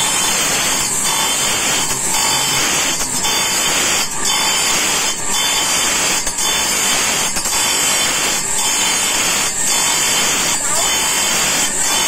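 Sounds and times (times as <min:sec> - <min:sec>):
grinding disc on steel blade: 0:00.0 - 0:12.0.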